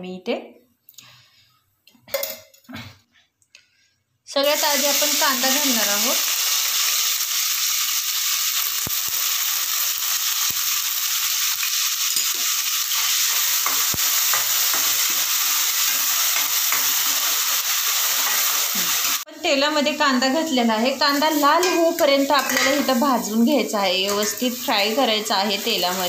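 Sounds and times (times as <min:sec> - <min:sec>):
onion sizzling in oil: 0:04.4 - 0:26.0.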